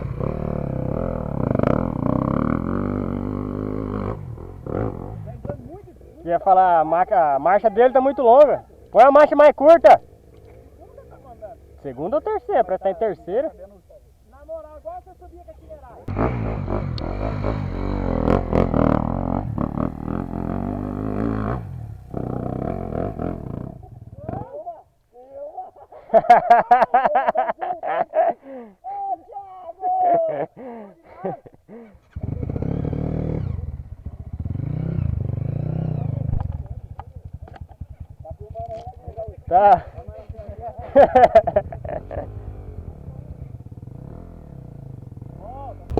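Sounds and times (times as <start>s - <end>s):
dirt bike engine labouring: 0.0s - 24.8s, 31.7s - 45.9s.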